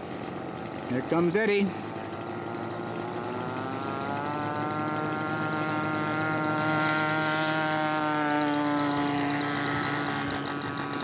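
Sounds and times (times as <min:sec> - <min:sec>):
model plane engine at full power: 0:00.0 - 0:11.0.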